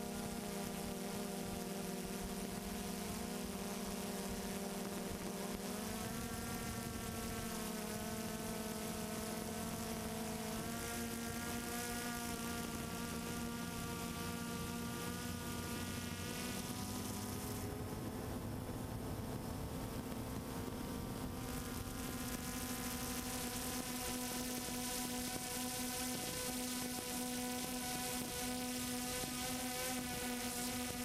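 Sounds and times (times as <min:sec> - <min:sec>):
drone propellers buzzing: 0:00.0 - 0:31.0.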